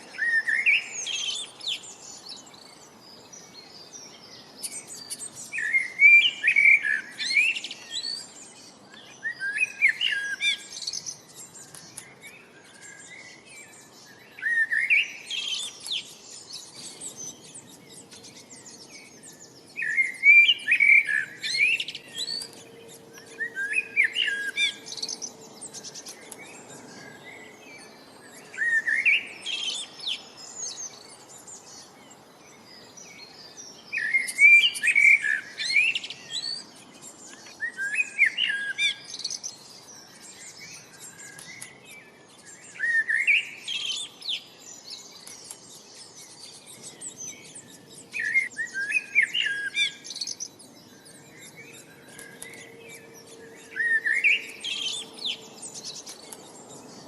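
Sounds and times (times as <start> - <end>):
faint high bird chirps: 0.0 - 57.0
songbirds singing: 0.0 - 57.0.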